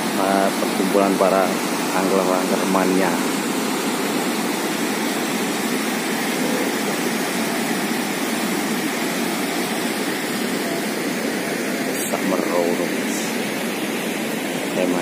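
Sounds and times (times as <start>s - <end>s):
floodwater rushing through gates: 0.0s - 15.0s.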